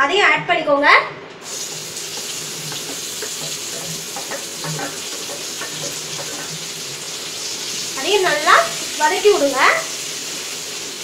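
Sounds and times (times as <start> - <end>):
onions sizzling in hot oil: 1.4 - 11.0.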